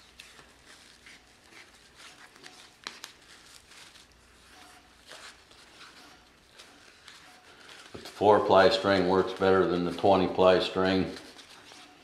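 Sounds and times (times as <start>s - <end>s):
wood wool rustling and crackling: 0.0s - 12.0s.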